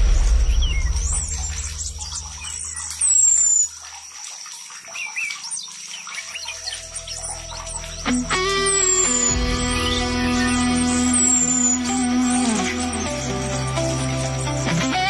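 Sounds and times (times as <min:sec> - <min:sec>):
running water rushing: 0:00.0 - 0:15.0
songbirds chirping and whistling: 0:00.0 - 0:15.0.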